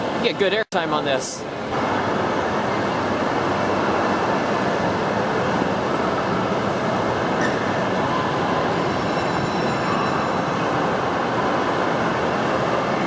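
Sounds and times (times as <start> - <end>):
crowd noise: 0.0 - 13.0.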